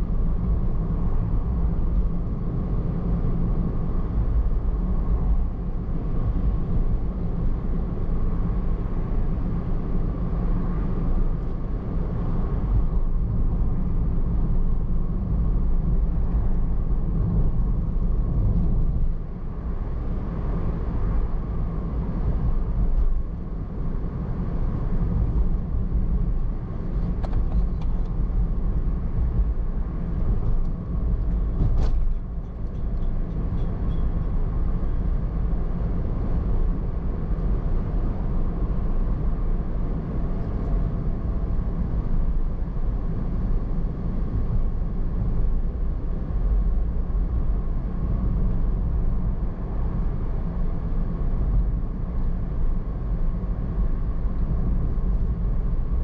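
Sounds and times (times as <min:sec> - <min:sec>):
car driving on road: 0:00.0 - 0:56.0.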